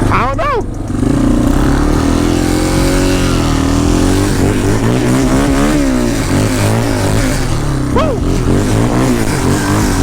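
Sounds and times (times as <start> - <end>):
quad engines revving: 0.0 - 10.0.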